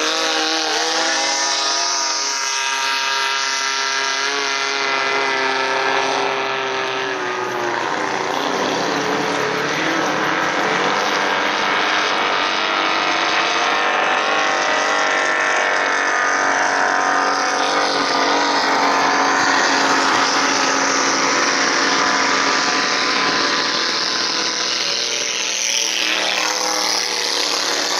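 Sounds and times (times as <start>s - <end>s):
racing boat outboard motors whining: 0.0s - 27.9s.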